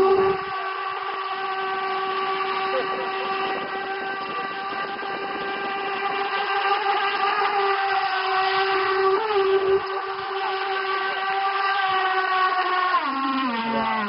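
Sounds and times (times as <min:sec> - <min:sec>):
rc boat motor whine: 0:00.0 - 0:14.0.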